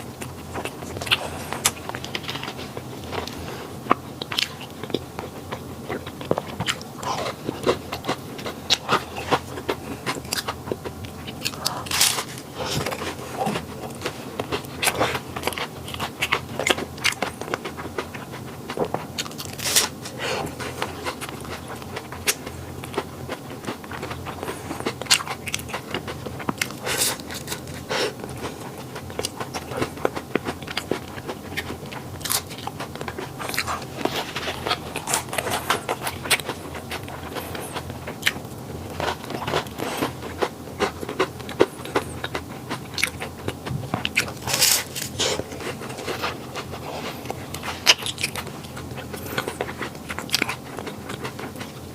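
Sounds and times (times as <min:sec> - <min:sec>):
chewing: 0:00.0 - 0:51.9
crisp pastry crackling: 0:00.1 - 0:51.9.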